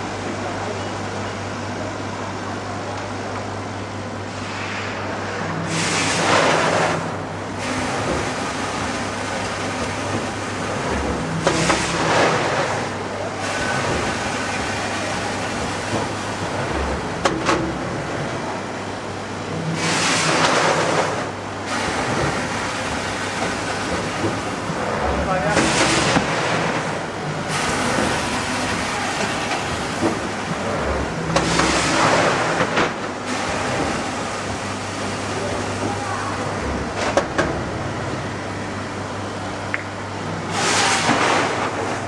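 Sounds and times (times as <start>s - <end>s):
packaging machine humming: 0.0s - 42.0s.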